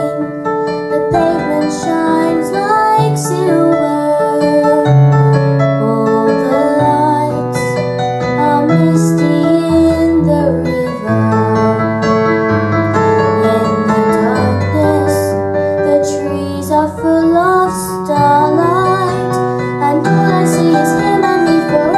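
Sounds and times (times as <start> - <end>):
piano chords: 0.0 - 21.9.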